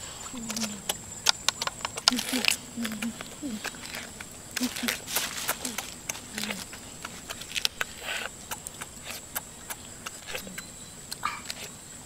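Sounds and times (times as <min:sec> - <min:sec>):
chewing: 0:00.0 - 0:11.8
crab shell cracking: 0:00.3 - 0:11.7
slurp: 0:02.0 - 0:11.8.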